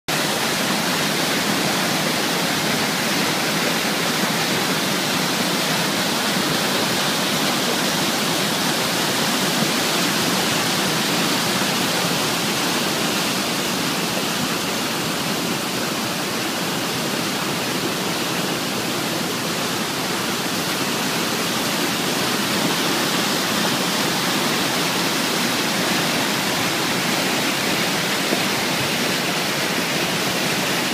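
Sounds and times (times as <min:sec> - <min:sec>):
flood water rushing: 0:00.1 - 0:30.9.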